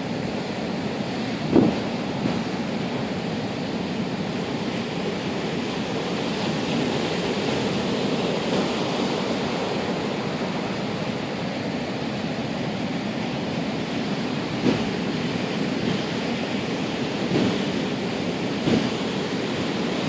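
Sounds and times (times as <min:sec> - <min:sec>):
ocean waves breaking: 0:00.0 - 0:20.0
strong wind: 0:00.0 - 0:20.0.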